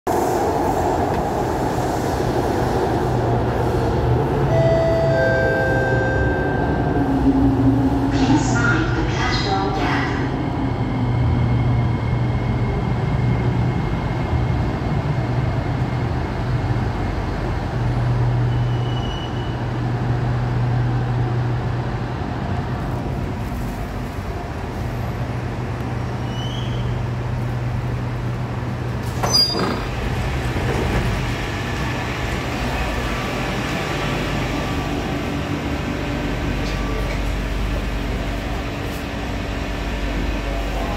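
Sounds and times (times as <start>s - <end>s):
metro train pulling into station: 0.1s - 40.9s.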